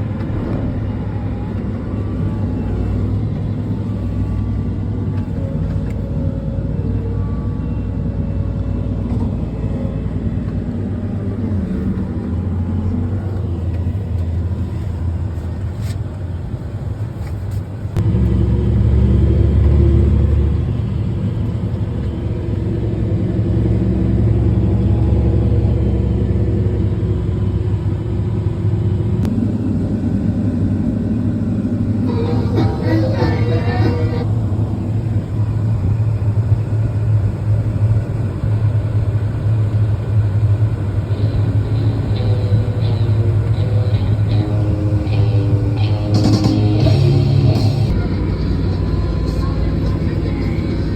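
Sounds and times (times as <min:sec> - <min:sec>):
tractor diesel engine droning: 0:00.0 - 0:50.9.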